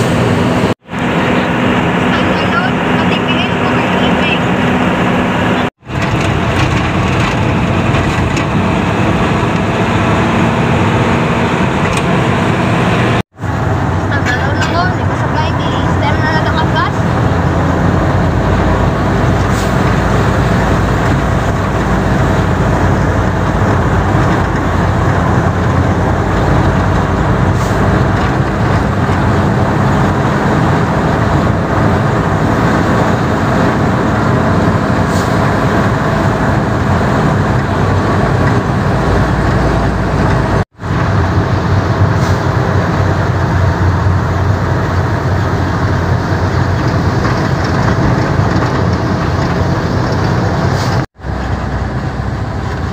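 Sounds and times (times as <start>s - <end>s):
road and rattle noise: 0.0s - 52.9s
truck engine running: 0.0s - 52.9s.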